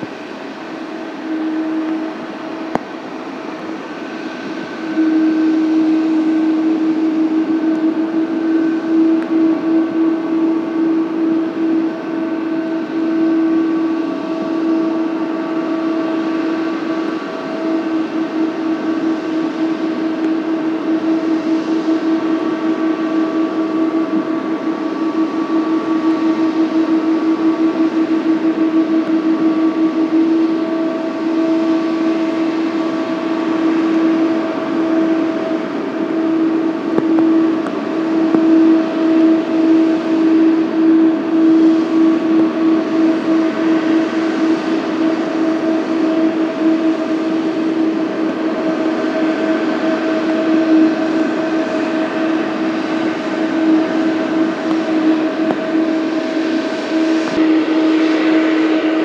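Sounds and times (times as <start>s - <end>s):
jet engines droning: 0.0s - 59.0s.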